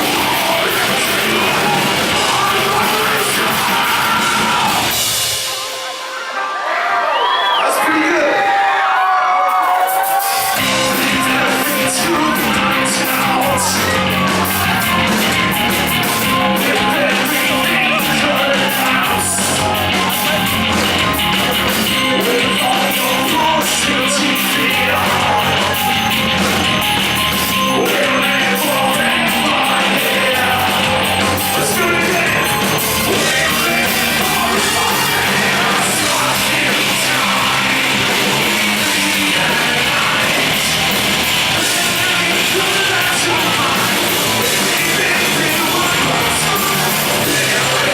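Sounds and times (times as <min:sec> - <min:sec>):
shouted and sung vocals: 0:00.0 - 0:05.2, 0:06.1 - 0:47.9
live heavy metal band: 0:00.0 - 0:47.9.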